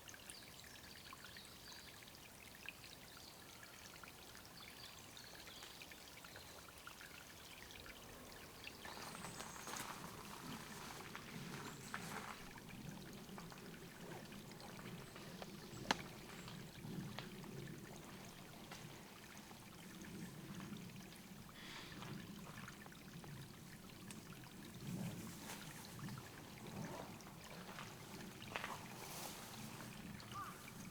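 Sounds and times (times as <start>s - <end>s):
water trickling into a pool: 0.0s - 30.9s.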